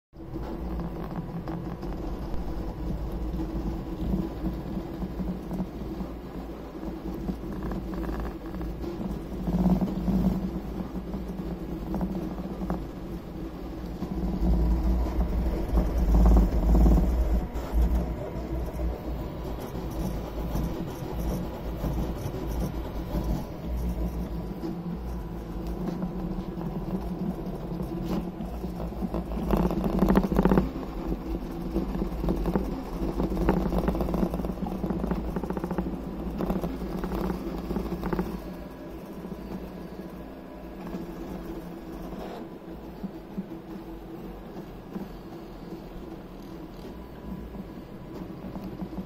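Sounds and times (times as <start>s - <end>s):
printer motors whirring and rattling: 0.2s - 49.0s
steady low rumble: 0.2s - 49.0s.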